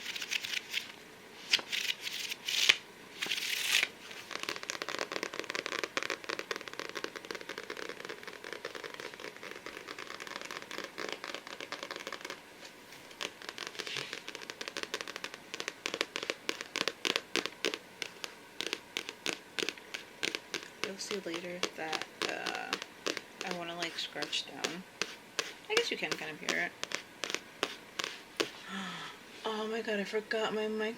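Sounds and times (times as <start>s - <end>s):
fingernails scratching a book: 1.5s - 12.4s, 13.0s - 28.6s.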